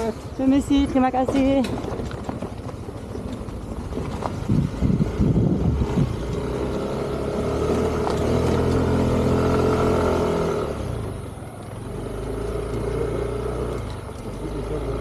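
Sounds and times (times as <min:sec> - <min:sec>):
motorbike engine running: 0:02.3 - 0:15.0.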